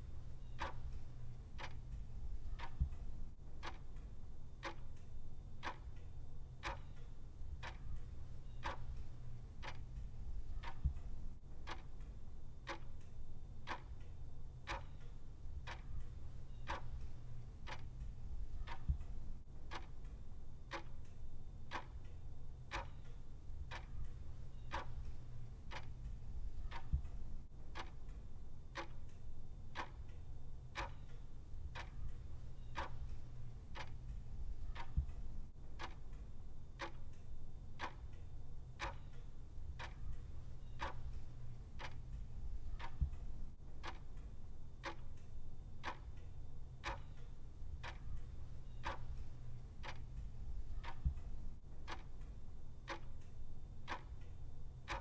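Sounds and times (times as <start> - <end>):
clock ticking: 0.0 - 55.0
faint low hum: 0.0 - 55.0.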